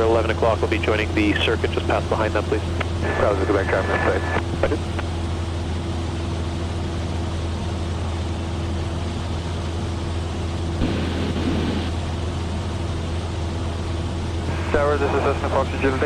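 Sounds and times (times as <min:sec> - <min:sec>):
aircraft engine droning: 0:00.0 - 0:16.0.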